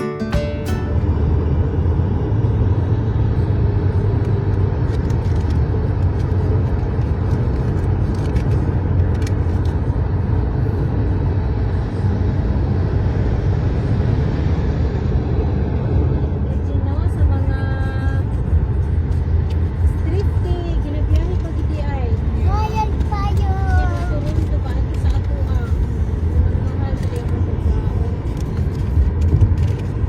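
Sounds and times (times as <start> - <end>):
car road rumble: 0.0 - 30.0.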